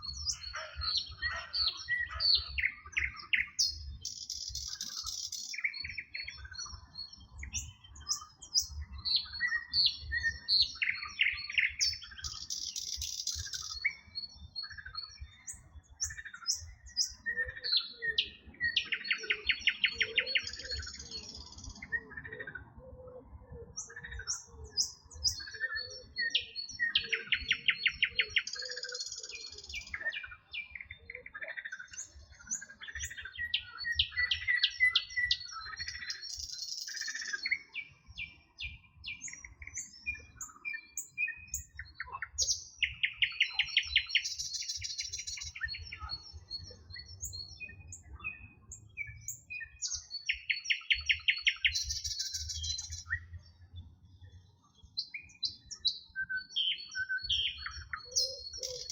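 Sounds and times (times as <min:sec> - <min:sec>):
songbird trilling song: 0:00.0 - 0:58.9
songbirds chirping: 0:00.0 - 0:58.9.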